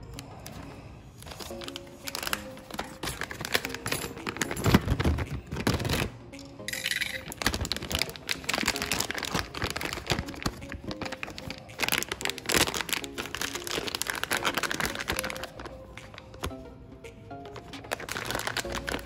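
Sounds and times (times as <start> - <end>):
quiet background music: 0.0 - 19.0
plastic bag crinkling: 0.3 - 16.5, 17.5 - 19.0.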